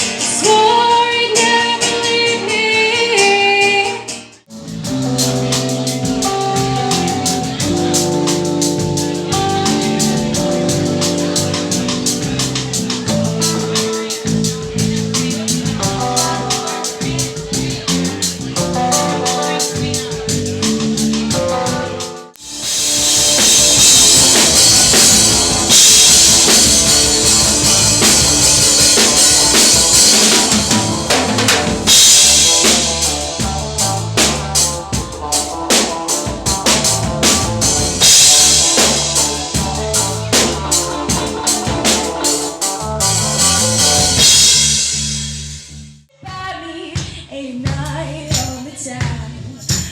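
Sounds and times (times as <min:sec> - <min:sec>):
band playing music: 0:00.0 - 0:45.6
loud drums and cymbals: 0:04.1 - 0:45.8.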